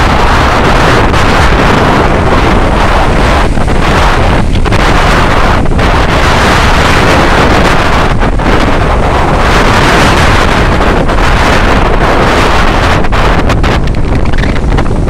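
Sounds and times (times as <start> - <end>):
surf breaking: 0.0 - 15.0
wind buffeting microphone: 0.0 - 15.0.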